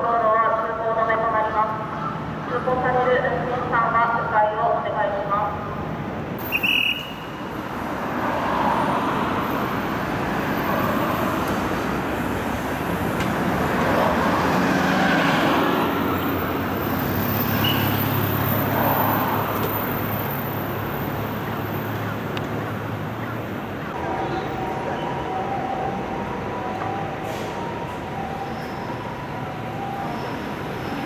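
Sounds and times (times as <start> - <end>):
cars and buses passing: 0.0 - 31.0.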